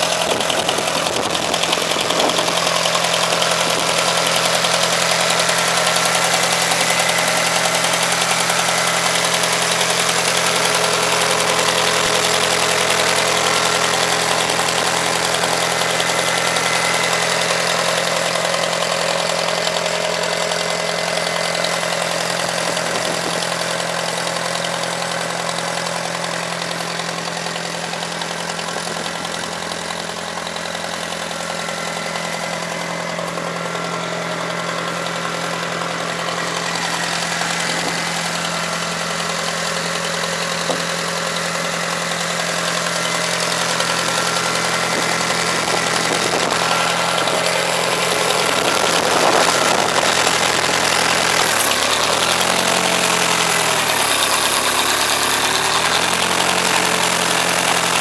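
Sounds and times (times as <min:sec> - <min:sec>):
backhoe engine idling: 0:00.0 - 0:58.0.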